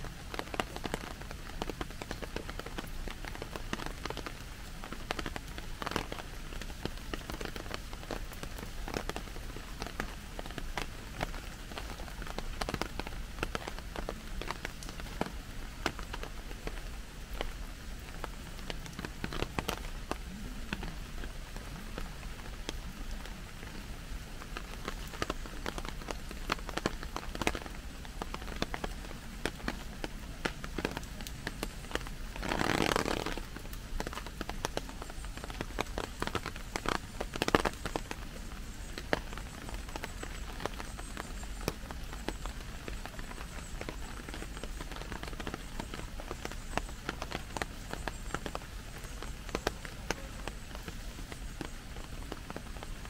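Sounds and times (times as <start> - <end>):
louder rush of rain: 0.0 - 53.0
rain ticking on umbrella: 0.0 - 53.0.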